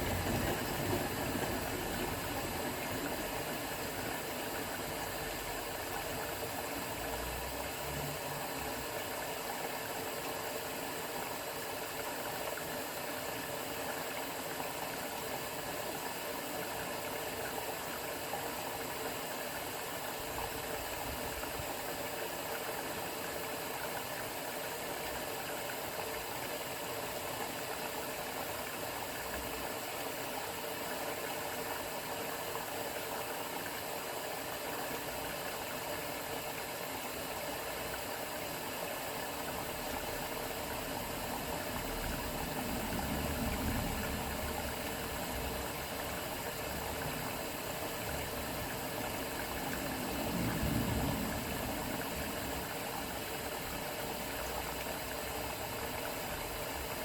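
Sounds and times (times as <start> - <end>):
washing machine humming: 0.0 - 57.0
water sloshing in washing machine: 0.0 - 57.0.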